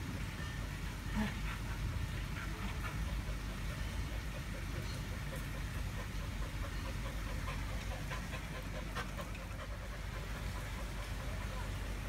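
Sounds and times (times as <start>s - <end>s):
dog panting: 0.6s - 12.0s.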